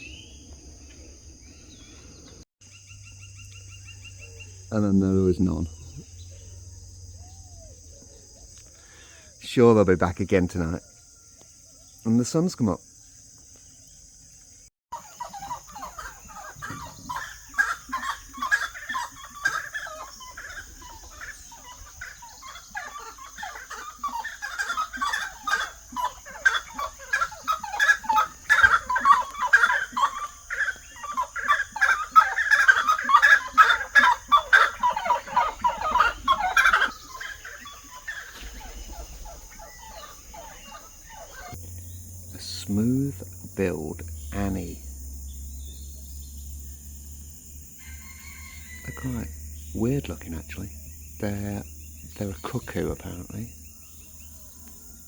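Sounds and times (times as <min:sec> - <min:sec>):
birds calling in chorus: 0:00.0 - 0:55.0
high insect drone: 0:00.0 - 0:55.0.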